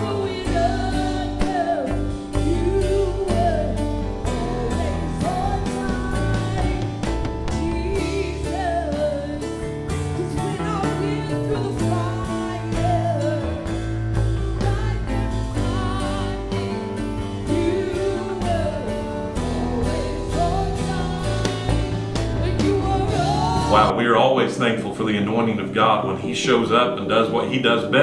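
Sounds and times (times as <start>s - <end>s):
band playing sustained chords: 0.0s - 28.0s
person singing: 0.0s - 28.0s.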